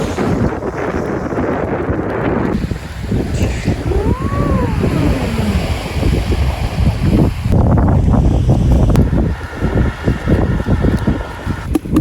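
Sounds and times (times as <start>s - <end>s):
strong wind on microphone: 0.0s - 12.0s.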